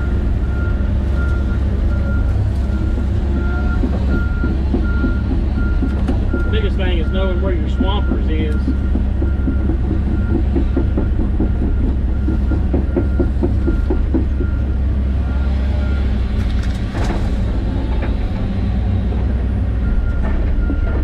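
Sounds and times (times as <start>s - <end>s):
excavator diesel engine and hydraulics: 0.0s - 21.0s.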